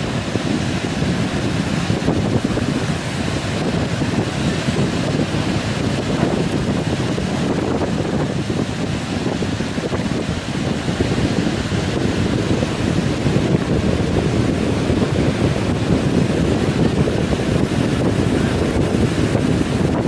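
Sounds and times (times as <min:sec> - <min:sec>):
heavy surf breaking: 0:00.0 - 0:20.0
wind buffeting microphone: 0:00.0 - 0:20.0.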